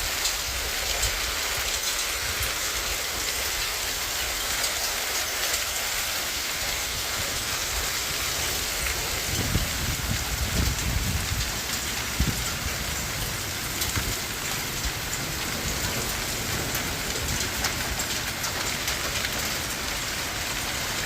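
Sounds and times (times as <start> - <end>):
hailstones ticking: 0.0 - 21.0
rain falling: 0.0 - 21.0.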